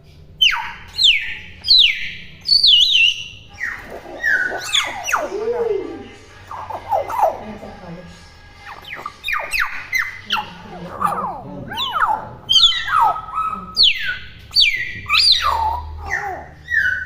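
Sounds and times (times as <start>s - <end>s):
myna whistling and calling: 0.4s - 7.4s, 8.6s - 17.0s.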